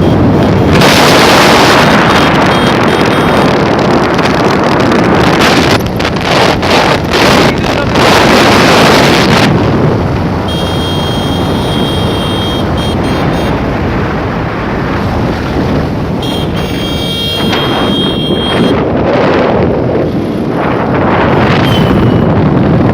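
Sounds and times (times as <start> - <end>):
vehicle running noise: 0.0 - 22.9
wind buffeting microphone: 0.0 - 22.9.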